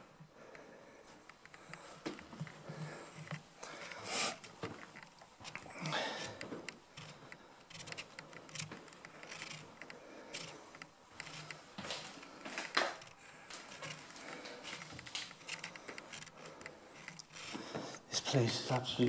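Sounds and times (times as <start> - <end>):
footsteps walking: 1.1 - 19.0
small clicks and knocks: 1.2 - 18.0.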